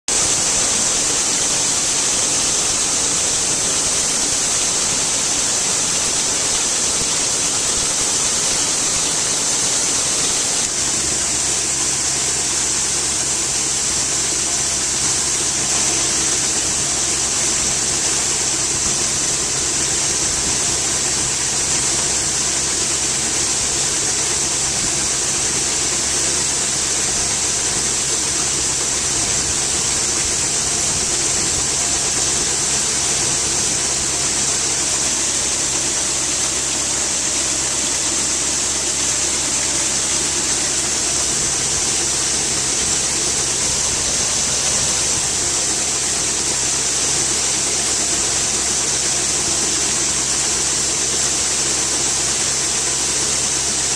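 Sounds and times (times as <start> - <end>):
low engine drone: 0.1 - 53.9
steady high hiss: 0.1 - 53.9.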